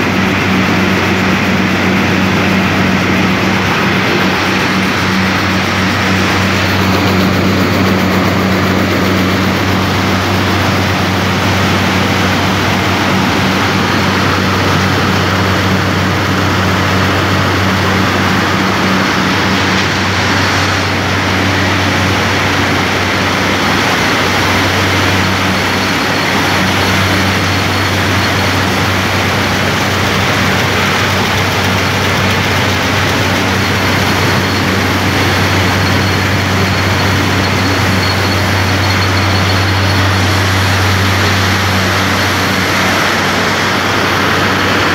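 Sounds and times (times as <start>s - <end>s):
vibrating machine hum: 0.0s - 44.9s.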